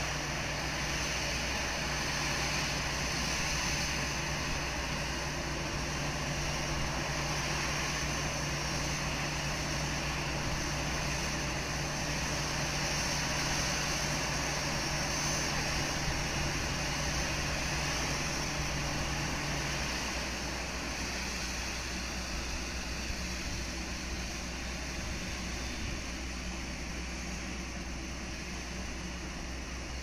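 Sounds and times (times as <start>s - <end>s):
machinery hum and hiss: 0.0s - 30.0s.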